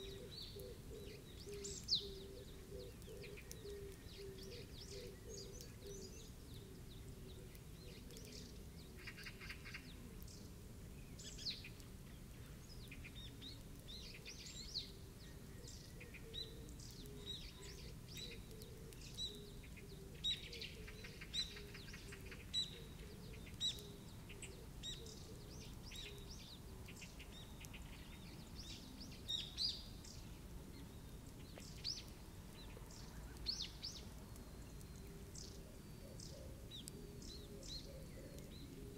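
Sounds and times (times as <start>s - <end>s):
birds chirping: 0.0s - 38.9s
faint steady background noise: 0.0s - 38.9s.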